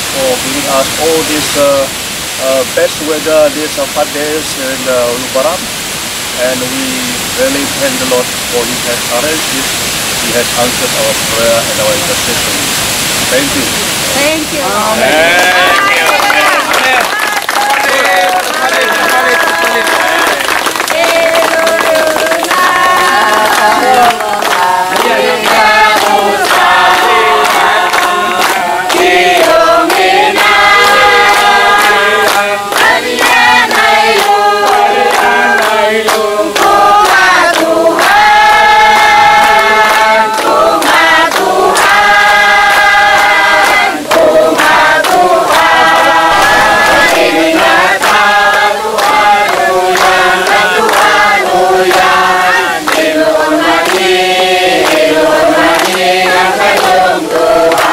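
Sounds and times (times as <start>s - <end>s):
group singing a hymn: 0.0s - 5.6s, 6.4s - 17.1s, 17.8s - 57.9s.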